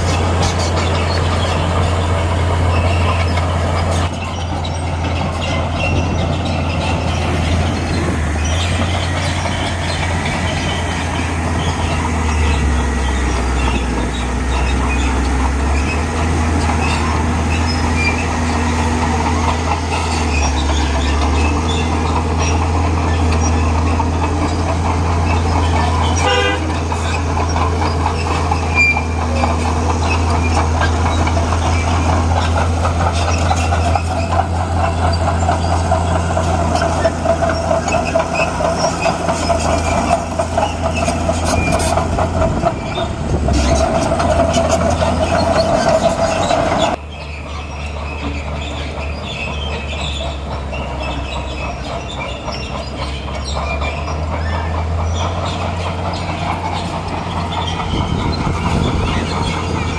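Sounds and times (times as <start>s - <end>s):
bulldozer diesel engine running: 0.0s - 59.9s
steel tracks clanking and squealing: 0.0s - 59.9s.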